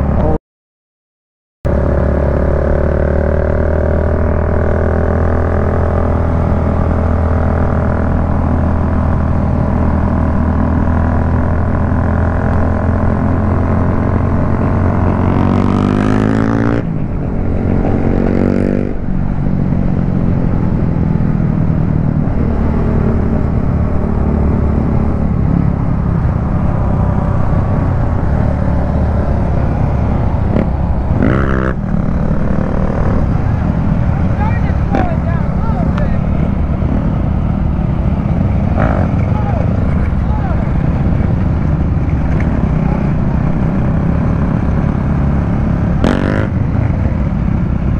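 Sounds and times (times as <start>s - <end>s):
motorcycle engine revving: 1.7s - 47.9s.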